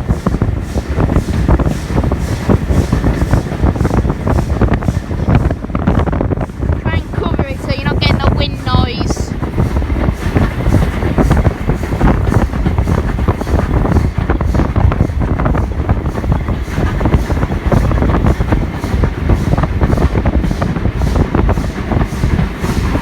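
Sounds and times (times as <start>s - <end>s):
moving train rumble: 0.0s - 23.0s
wind buffeting microphone: 0.0s - 23.0s.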